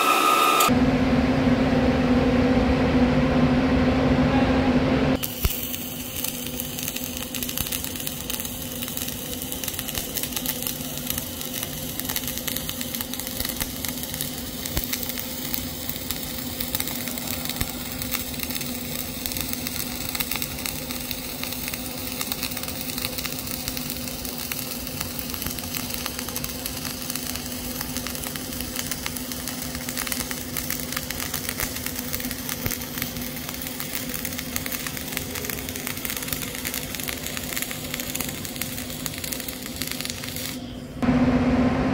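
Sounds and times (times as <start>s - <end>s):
welding arc crackling: 0.0s - 0.7s, 5.2s - 40.8s
low hum: 0.0s - 28.8s, 29.5s - 41.9s.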